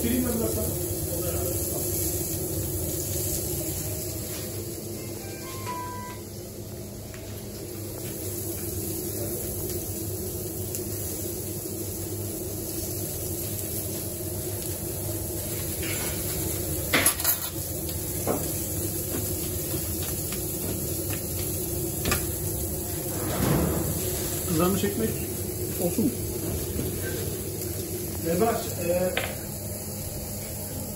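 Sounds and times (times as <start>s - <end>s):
kitchen noise around grill: 0.0s - 30.9s.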